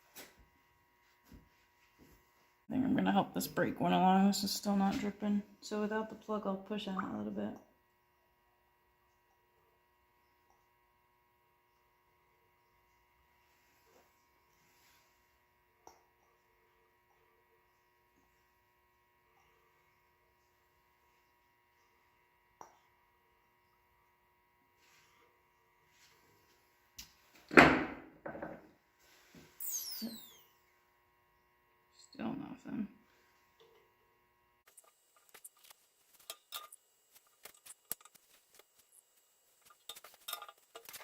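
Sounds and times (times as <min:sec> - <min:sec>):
faint electrical hum: 0:00.0 - 0:41.0.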